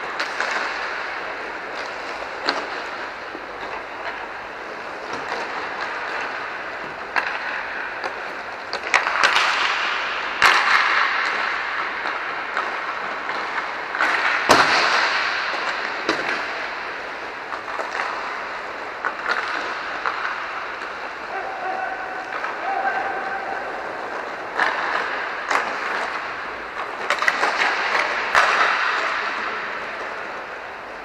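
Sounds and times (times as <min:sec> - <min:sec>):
sticks and pucks cracking: 0:00.0 - 0:21.4, 0:22.1 - 0:31.0
skate wheels rolling hiss: 0:00.0 - 0:31.0.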